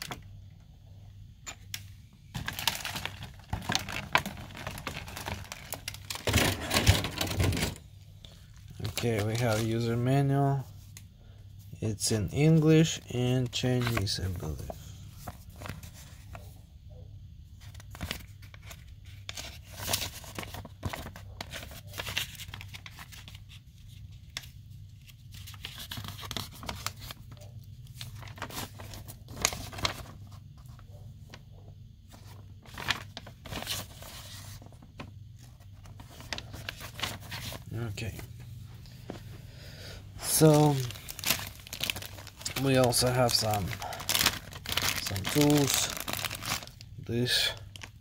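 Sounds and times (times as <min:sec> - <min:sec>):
faint low hum: 0:00.0 - 0:48.0
paper rustling and crinkling: 0:02.3 - 0:07.8, 0:08.4 - 0:11.0, 0:12.0 - 0:16.6, 0:17.6 - 0:31.4, 0:32.1 - 0:39.3, 0:40.2 - 0:48.0.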